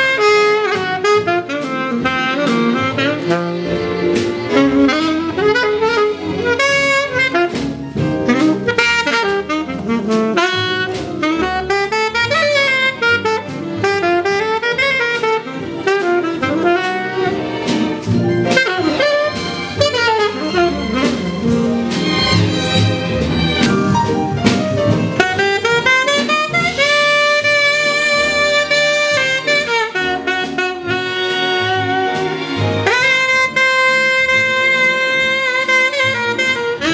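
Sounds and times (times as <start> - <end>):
jazz saxophone melody: 0.0 - 36.9
lower accompaniment: 0.0 - 36.9.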